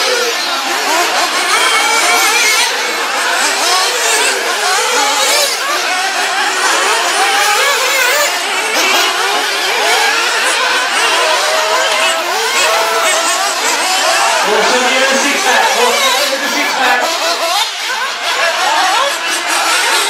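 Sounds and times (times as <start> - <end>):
rc buggy motors whining: 0.0 - 20.0.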